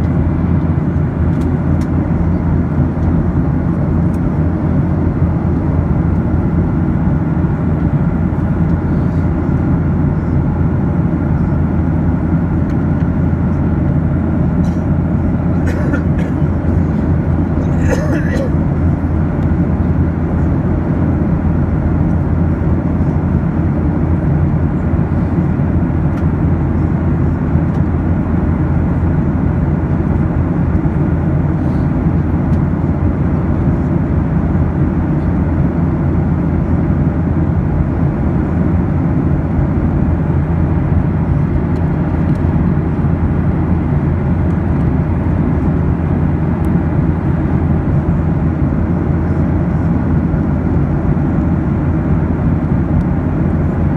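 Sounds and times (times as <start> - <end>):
airliner cabin drone: 0.0 - 53.9.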